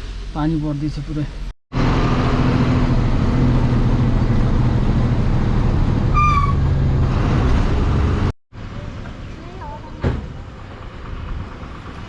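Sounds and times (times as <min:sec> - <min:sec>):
road noise rushing: 0:00.0 - 0:12.0.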